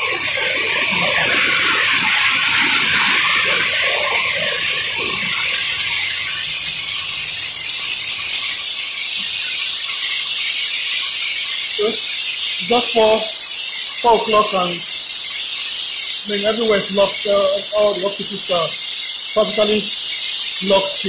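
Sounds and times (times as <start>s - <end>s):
heavy rain hissing: 0.0s - 21.0s
water streaming off roof: 0.0s - 21.0s.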